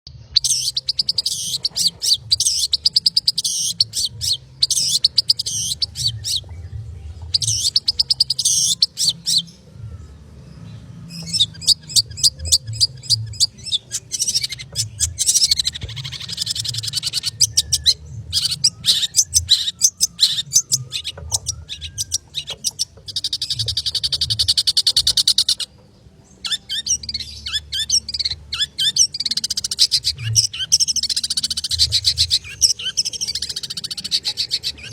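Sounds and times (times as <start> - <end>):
bird singing rapid high chirps: 0.1 - 34.9.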